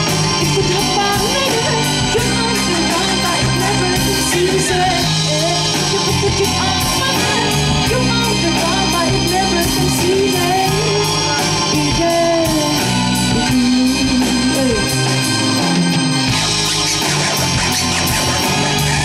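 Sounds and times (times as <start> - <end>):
woman singing into microphone: 0.0 - 15.8
bass guitar: 0.0 - 19.0
drums: 0.0 - 19.0
electric guitar: 0.0 - 19.0.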